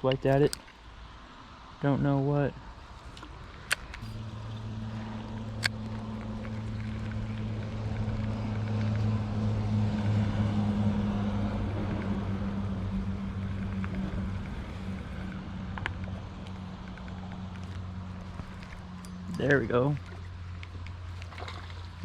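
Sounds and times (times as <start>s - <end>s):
engine passing by: 3.0s - 22.0s.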